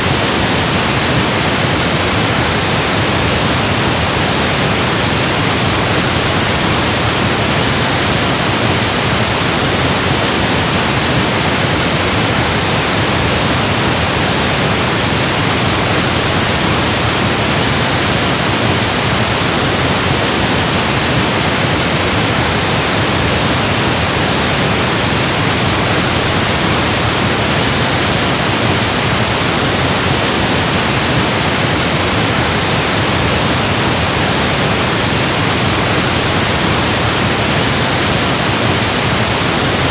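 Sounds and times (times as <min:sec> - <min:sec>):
steady pink noise: 0:00.0 - 0:39.9.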